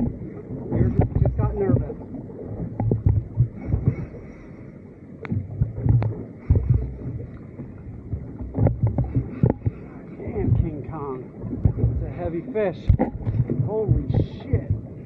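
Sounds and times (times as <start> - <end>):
low thuds: 0.0 - 4.2, 5.2 - 15.0
wind buffeting microphone: 0.0 - 4.4, 5.2 - 15.0
water slapping boat hull: 0.0 - 15.0.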